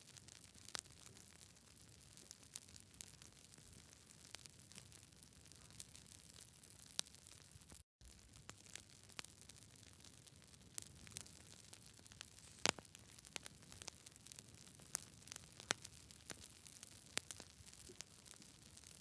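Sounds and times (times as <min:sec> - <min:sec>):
campfire crackling: 0:00.2 - 0:19.0.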